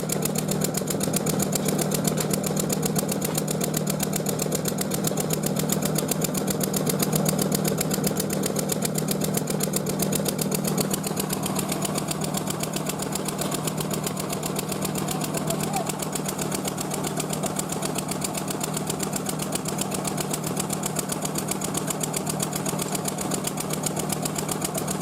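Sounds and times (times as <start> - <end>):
machinery humming with rapid pulsing: 0.0 - 25.0.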